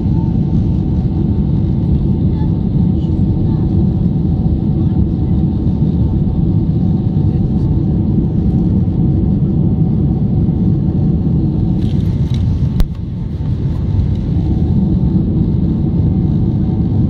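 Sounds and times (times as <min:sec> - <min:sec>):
airliner engine rumble in cabin: 0:00.0 - 0:17.0.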